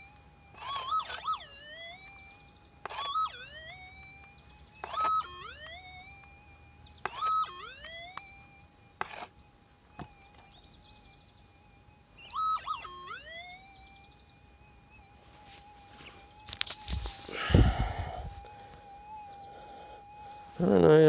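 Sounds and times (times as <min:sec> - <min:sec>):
metal detector beep: 0:00.0 - 0:21.0
metal detector hum: 0:00.0 - 0:21.0.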